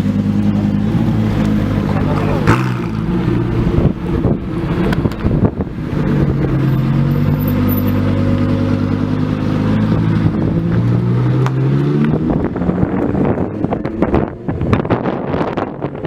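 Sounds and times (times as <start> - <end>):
car engine running at low revs: 0.0 - 16.0.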